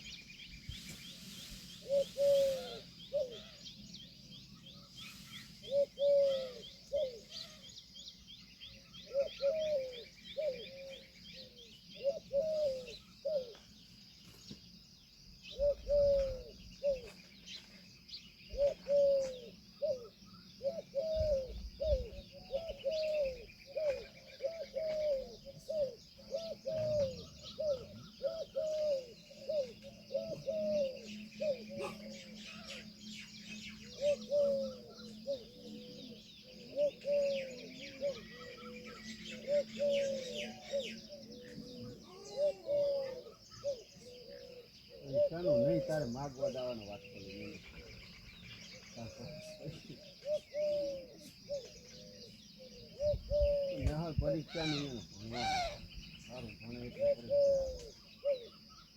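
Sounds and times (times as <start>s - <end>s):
bird low arched notes: 0.0s - 58.9s
small birds chirping: 0.0s - 58.9s.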